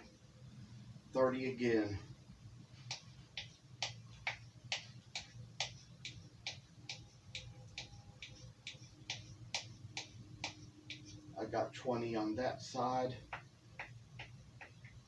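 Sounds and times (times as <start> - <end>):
person counting: 2.8 - 15.0.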